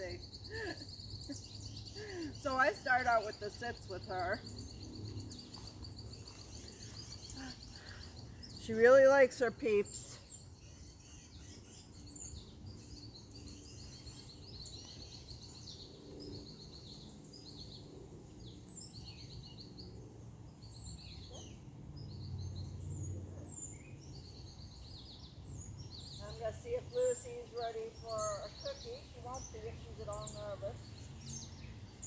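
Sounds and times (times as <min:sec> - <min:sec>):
songbirds chirping and trilling: 0:00.0 - 0:32.0.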